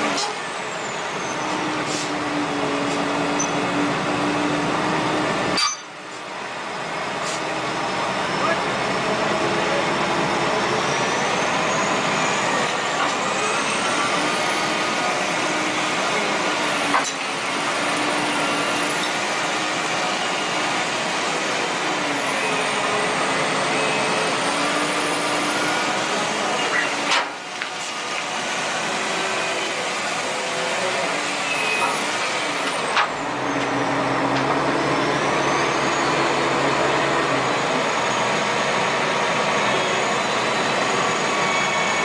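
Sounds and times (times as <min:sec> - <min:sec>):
diesel engines droning: 0:00.0 - 0:42.0.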